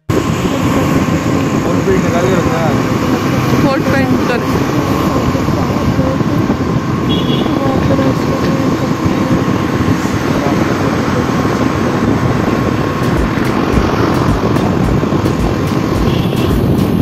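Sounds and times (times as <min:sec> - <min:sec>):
motorbike engine and road roar: 0:00.0 - 0:17.0
wind rushing over microphone: 0:00.0 - 0:17.0.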